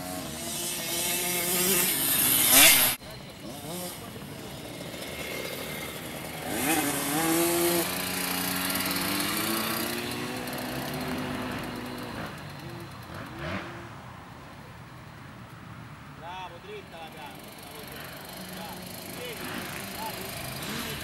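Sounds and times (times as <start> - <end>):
dirt bike engine revving: 0.0 - 14.1, 17.1 - 21.0.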